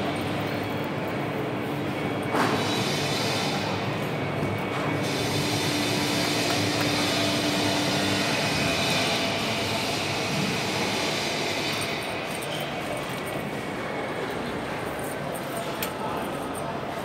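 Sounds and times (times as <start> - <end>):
busy indoor hall hiss: 0.0 - 17.0.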